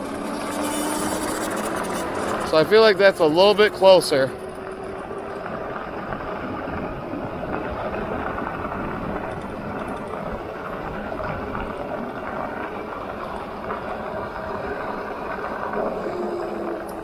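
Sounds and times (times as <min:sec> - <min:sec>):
tire road noise: 0:00.0 - 0:17.0
wind on microphone: 0:00.0 - 0:17.0.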